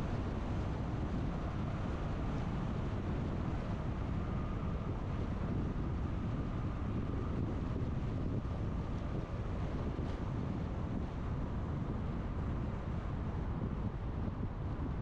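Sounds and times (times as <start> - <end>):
car driving on road: 0.0 - 15.0
wind noise on microphone: 0.0 - 15.0.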